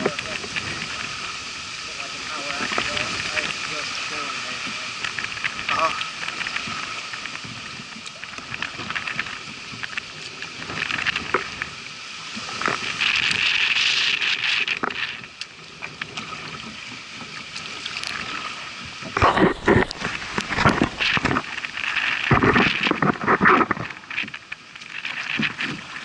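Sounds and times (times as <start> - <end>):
kayak paddle splashing: 0.0 - 26.0
water lapping against hull: 0.0 - 26.0.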